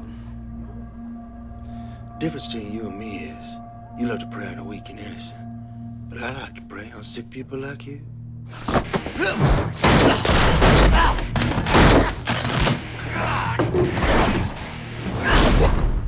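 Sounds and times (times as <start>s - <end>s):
dramatic music score: 0.0s - 16.0s.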